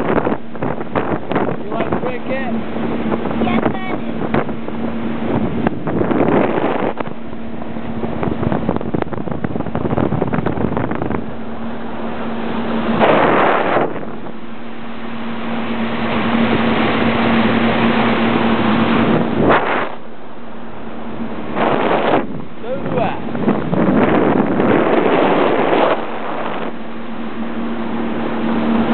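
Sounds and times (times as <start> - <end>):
outboard motor running: 0.0 - 28.9
wind rushing over microphone: 0.0 - 28.9.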